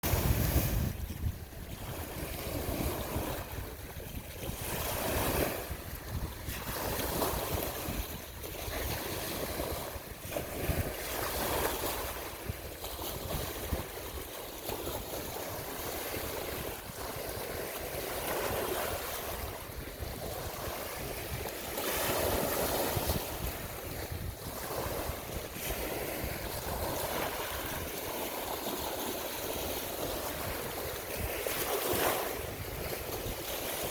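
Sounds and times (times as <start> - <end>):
rushing water: 0.0 - 33.9
wind noise on microphone: 0.0 - 33.9.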